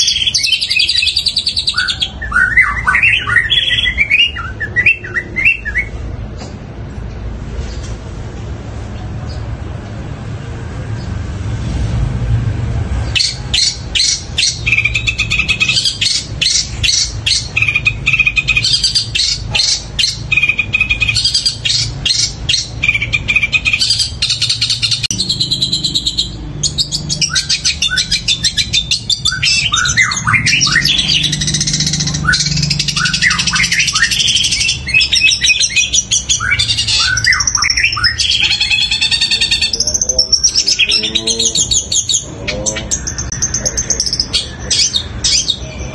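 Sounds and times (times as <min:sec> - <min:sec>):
shrike singing: 0:00.0 - 0:06.4, 0:13.0 - 0:45.9.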